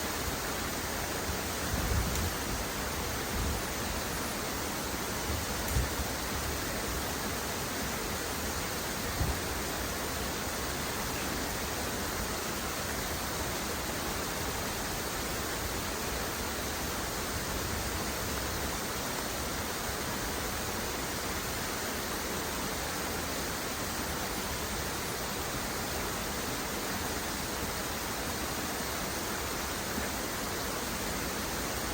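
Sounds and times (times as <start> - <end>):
falling water rushing: 0.0 - 31.9.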